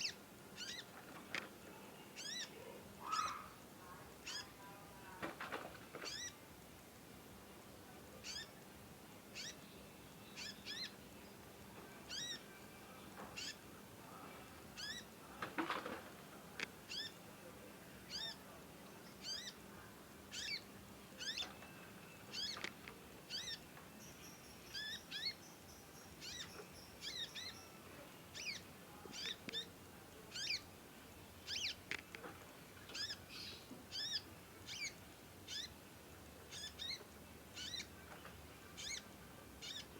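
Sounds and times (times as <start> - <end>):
songbird chirping: 0.0 - 6.5, 7.8 - 39.9.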